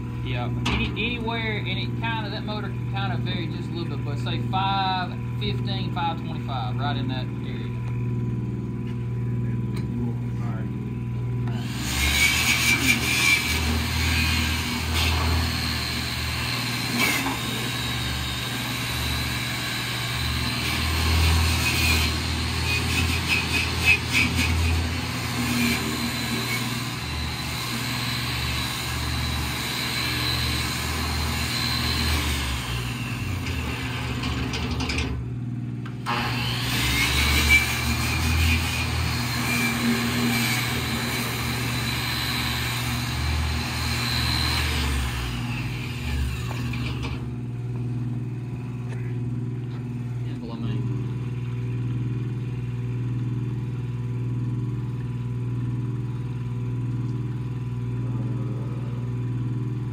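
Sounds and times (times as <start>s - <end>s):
motor humming with high whine: 0.0s - 59.9s.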